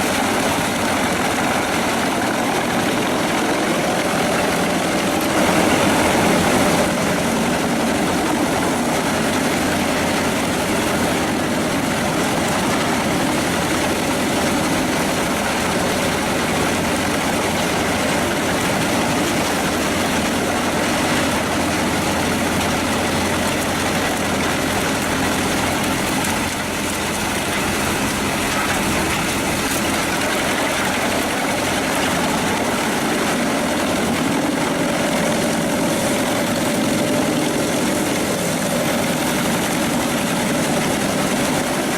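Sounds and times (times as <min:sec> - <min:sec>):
wood chipper running: 0:00.0 - 0:41.9.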